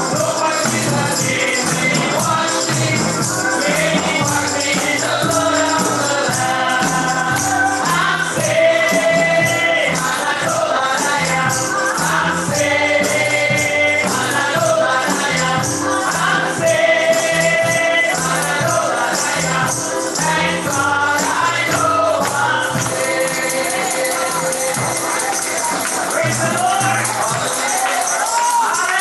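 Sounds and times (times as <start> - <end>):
band playing: 0.0 - 28.7
rattling high percussion: 0.0 - 29.0
voices singing together: 0.0 - 29.0.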